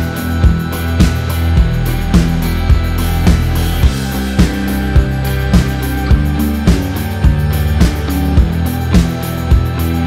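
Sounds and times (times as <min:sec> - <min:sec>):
low bass notes: 0:00.0 - 0:10.0
steady drum beat: 0:00.0 - 0:10.0.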